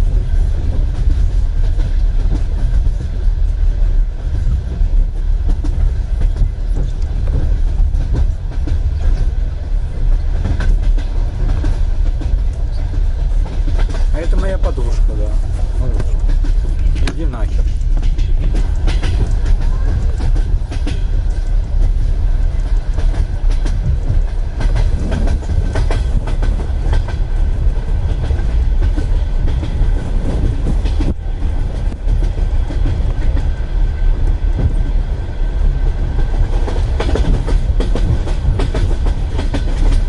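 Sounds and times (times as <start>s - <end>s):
low rumble of moving train: 0.0s - 40.0s
train wheels clattering over rail joints: 0.0s - 40.0s.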